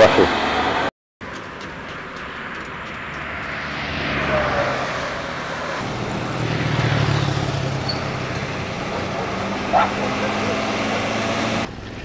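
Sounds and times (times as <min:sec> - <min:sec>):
vehicle passing: 0:00.0 - 0:11.7
motorcycle engines humming: 0:00.0 - 0:12.0.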